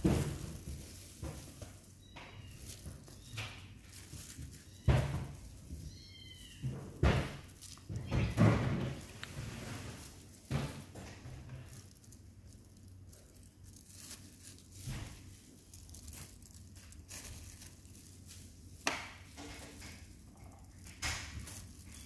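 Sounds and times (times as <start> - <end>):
soft rustles: 0.0 - 22.0.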